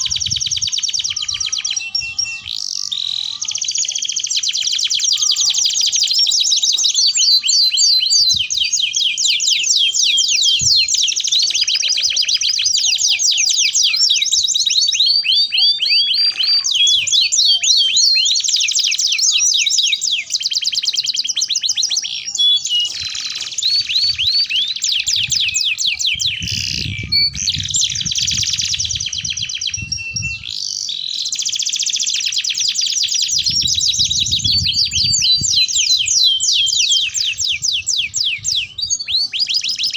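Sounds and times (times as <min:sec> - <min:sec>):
canaries singing trilled song: 0:00.0 - 0:39.9.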